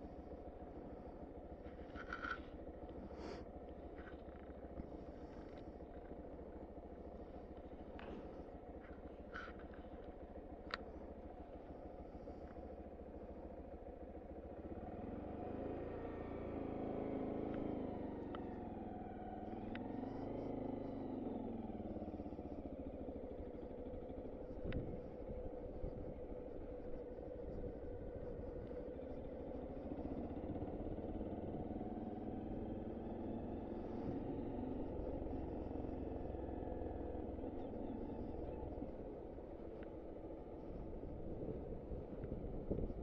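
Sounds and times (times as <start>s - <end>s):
motorbike engine running: 0.0s - 43.0s.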